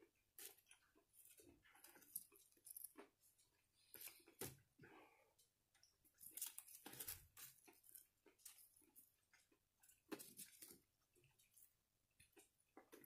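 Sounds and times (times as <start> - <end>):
chewing food: 0.0 - 13.0.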